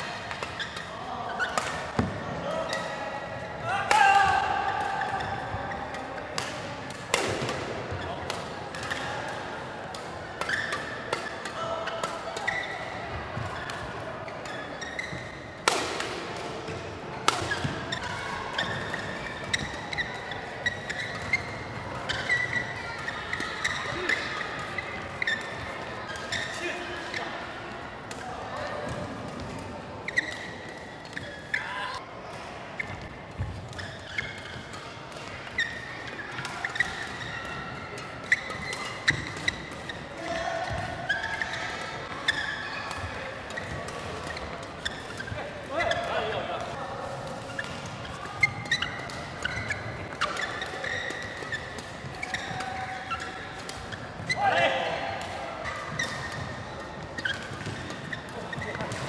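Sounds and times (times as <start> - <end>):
rackets hitting shuttlecock: 0.0 - 3.0, 3.6 - 27.3, 27.9 - 31.6, 32.2 - 59.0
shoes squeaking on court floor: 0.0 - 3.0, 9.9 - 27.5, 28.1 - 32.0, 32.8 - 59.0.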